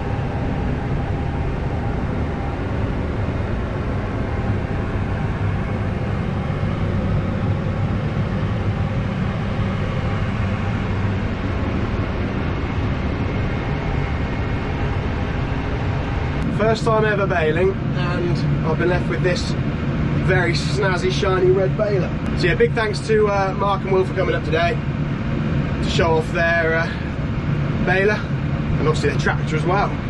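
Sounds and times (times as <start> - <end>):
tractor and baler drone: 0.0 - 30.0.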